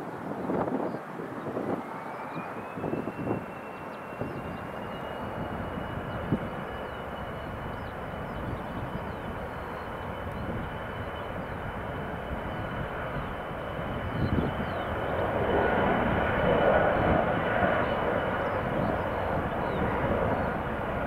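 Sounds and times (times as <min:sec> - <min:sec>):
jet engines with high whine: 0:00.0 - 0:21.0.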